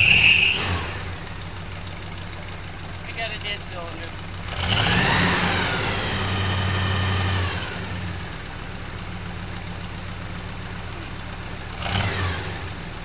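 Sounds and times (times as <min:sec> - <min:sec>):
pickup engine revving and idling: 0:00.0 - 0:13.0.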